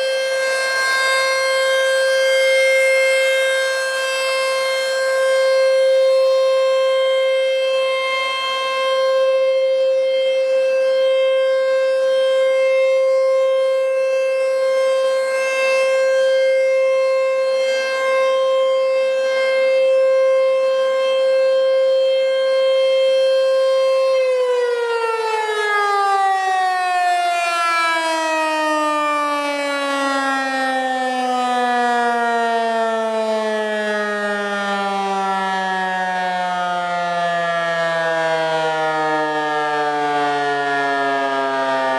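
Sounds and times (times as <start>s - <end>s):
warning siren: 0.0s - 41.9s.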